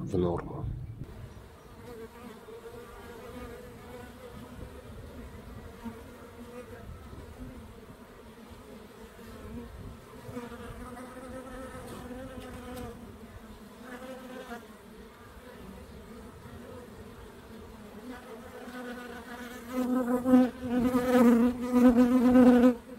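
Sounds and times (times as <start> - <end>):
honeybees humming: 1.1 - 22.9.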